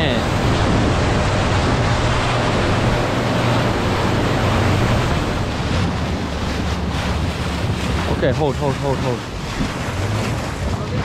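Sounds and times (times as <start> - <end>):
low engine hum: 0.0 - 11.0
water rushing past boat: 0.0 - 11.0
wind buffeting microphone: 0.0 - 11.0.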